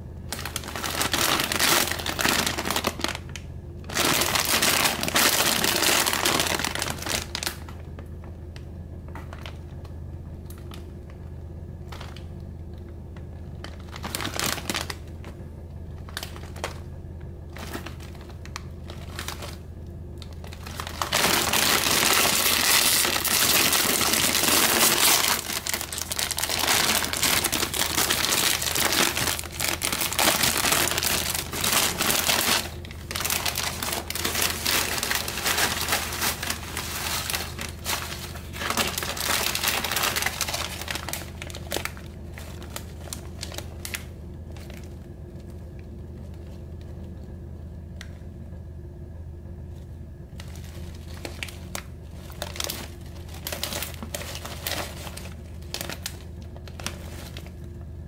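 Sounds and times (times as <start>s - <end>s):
chip bag crinkling: 0.2s - 8.2s, 9.1s - 47.2s, 50.3s - 57.8s.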